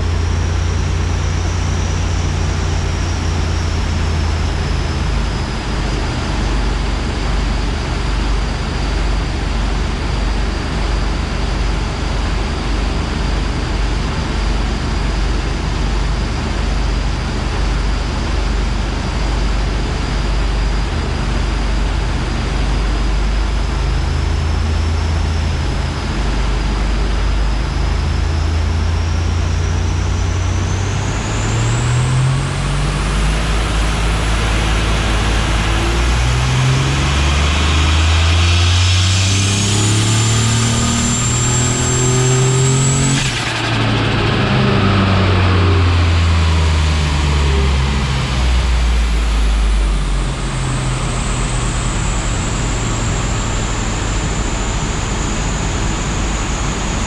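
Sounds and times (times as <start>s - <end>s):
car engine droning: 0.0s - 57.0s
turbo whine: 0.0s - 57.0s.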